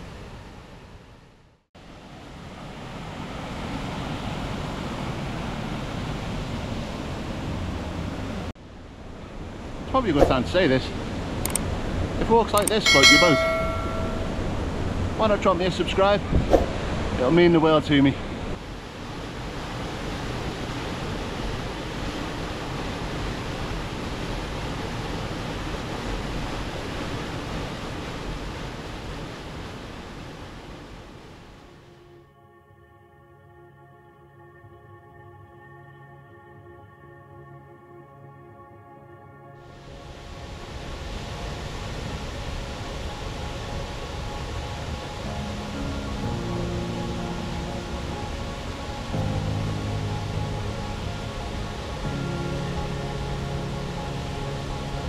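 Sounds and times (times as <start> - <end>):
waterfall and river rushing: 0.0 - 32.2, 39.6 - 55.0.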